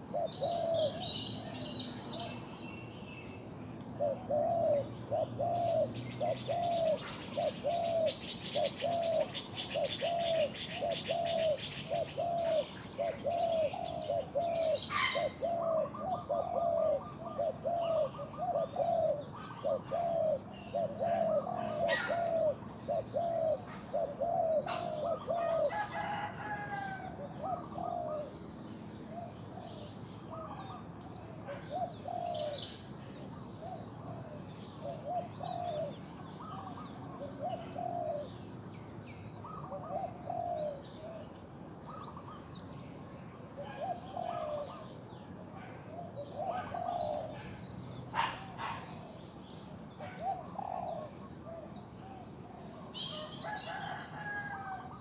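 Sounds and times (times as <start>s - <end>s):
doves cooing: 0.0s - 2.6s, 3.9s - 38.6s, 39.4s - 49.2s, 50.0s - 55.0s.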